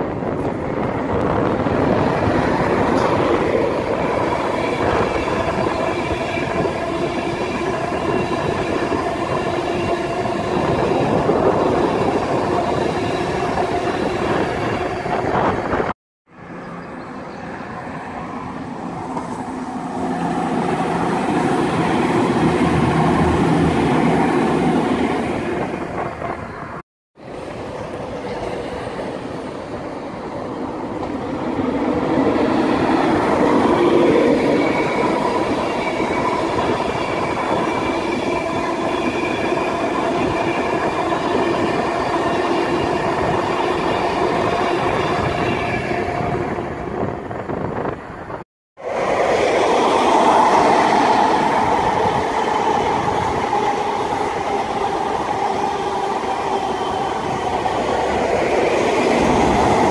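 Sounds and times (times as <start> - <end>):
train approaching and passing: 0.0 - 59.9
train passing at speed: 0.0 - 59.9.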